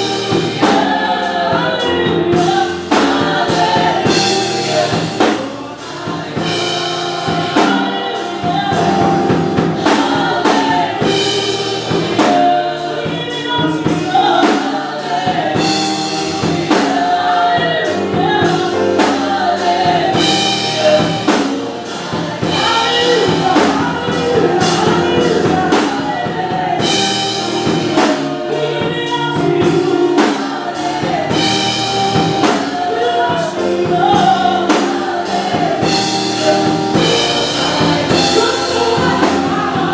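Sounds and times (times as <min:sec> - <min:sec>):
drum kit beat: 0:00.0 - 0:39.9
gospel choir singing: 0:00.0 - 0:39.9.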